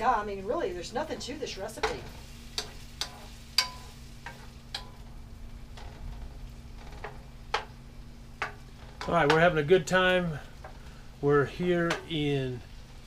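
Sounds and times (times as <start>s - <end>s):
low steady hum: 0.0s - 13.0s
shrimp sizzling in skillet: 0.0s - 13.0s.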